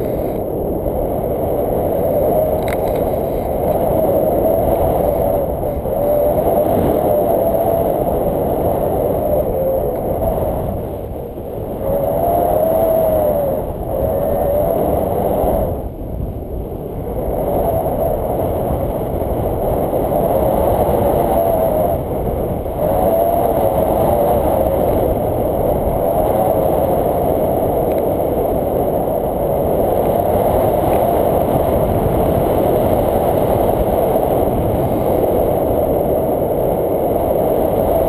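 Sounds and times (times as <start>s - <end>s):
wind rumbling on microphone: 0.0s - 38.0s.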